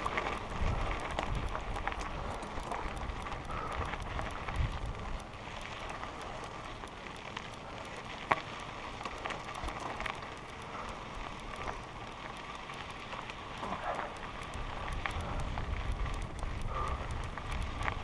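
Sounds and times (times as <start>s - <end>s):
bike tyres crunching on gravel: 0.0s - 18.0s.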